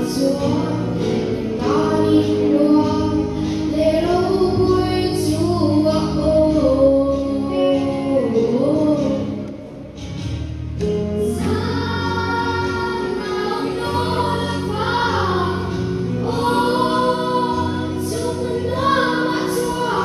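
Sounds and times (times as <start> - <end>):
girls singing a hymn: 0.0 - 9.5, 11.2 - 20.0
instrumental backing: 0.0 - 20.0.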